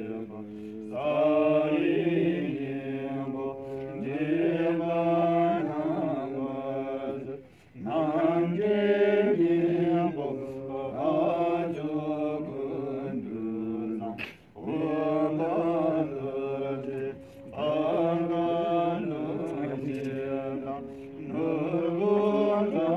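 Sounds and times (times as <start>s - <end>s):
monks chanting: 0.0s - 22.9s.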